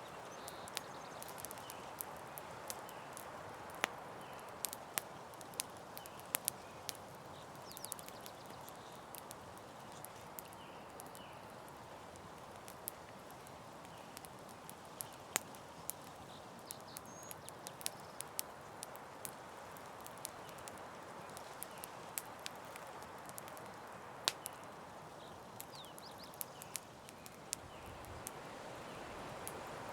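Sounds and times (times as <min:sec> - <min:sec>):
campfire hissing: 0:00.0 - 0:29.9
campfire popping and snapping: 0:00.0 - 0:29.9.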